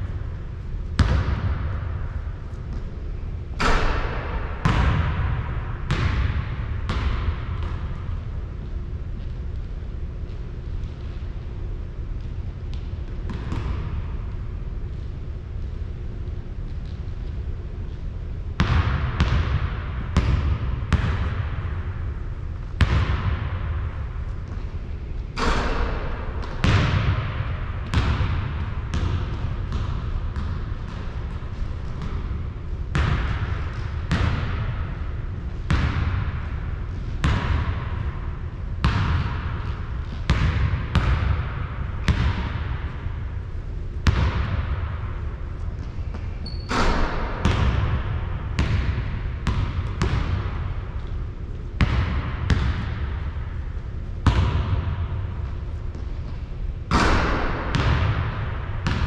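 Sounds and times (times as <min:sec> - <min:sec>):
basketball bouncing on hard court: 0:00.8 - 0:09.5, 0:12.2 - 0:14.3, 0:18.6 - 0:21.9, 0:22.6 - 0:59.0.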